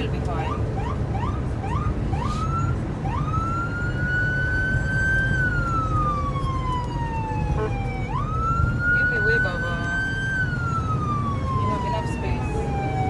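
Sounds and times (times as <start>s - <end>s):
engine and road rumble: 0.0s - 13.0s
ambulance siren: 0.2s - 13.0s.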